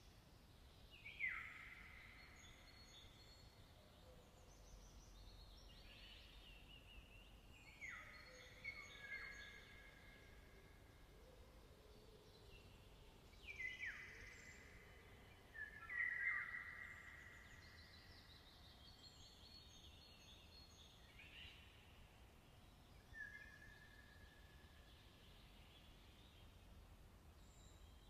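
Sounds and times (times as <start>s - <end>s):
faint outdoor hiss: 0.0s - 28.0s
songbirds singing faintly: 0.0s - 28.0s.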